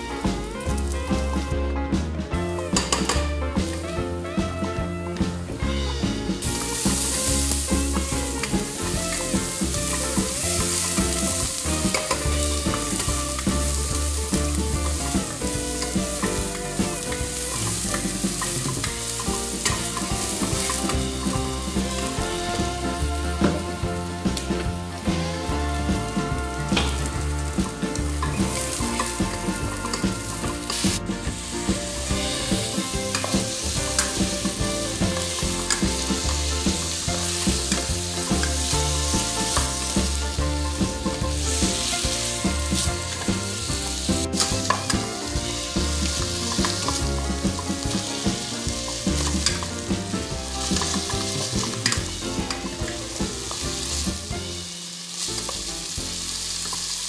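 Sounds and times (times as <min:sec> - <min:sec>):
chicken sizzling in hot oil: 0:00.0 - 0:01.6, 0:02.3 - 0:57.0
spatula knocking on pan: 0:02.4 - 0:54.1.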